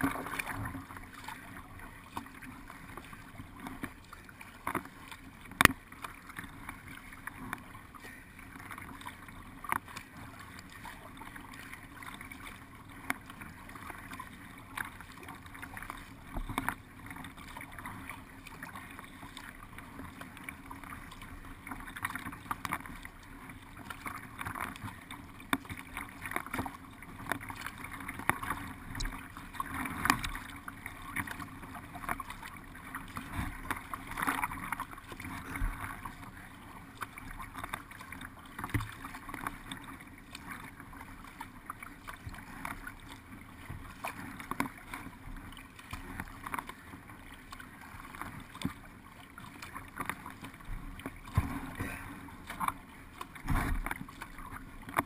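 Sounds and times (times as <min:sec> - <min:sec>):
paddle splashes: 0:00.0 - 0:55.0
water lapping along boat hull: 0:00.0 - 0:55.0.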